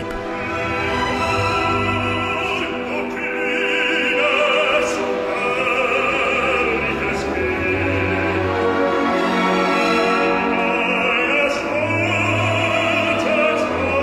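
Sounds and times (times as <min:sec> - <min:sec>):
full orchestra: 0:00.0 - 0:14.0
operatic voice singing: 0:00.0 - 0:14.0.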